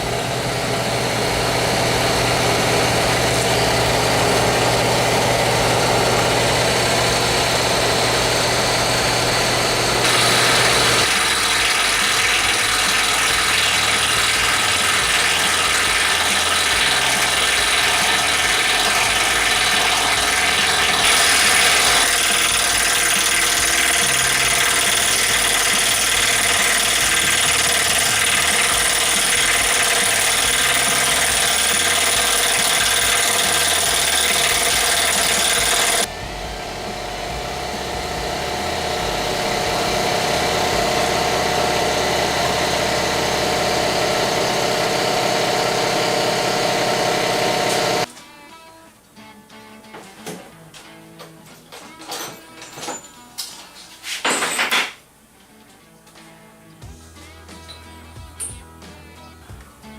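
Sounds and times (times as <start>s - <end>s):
loud machine running: 0.0s - 48.1s.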